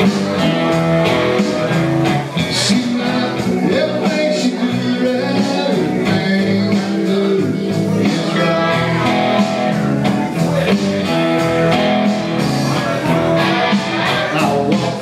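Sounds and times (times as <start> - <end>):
backing band with steady beat: 0.0 - 15.0
resonator guitar: 0.0 - 15.0.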